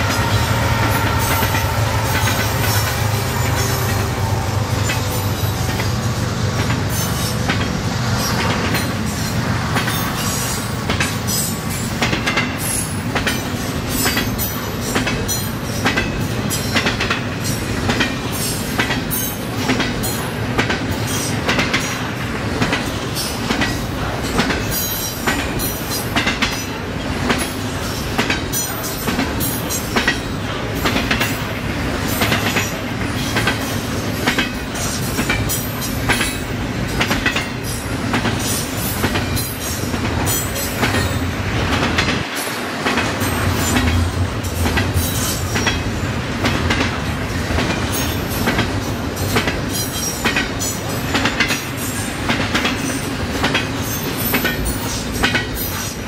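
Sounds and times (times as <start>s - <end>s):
railroad cars rumbling: 0.0s - 56.0s
railroad wheels clacking: 0.0s - 56.0s.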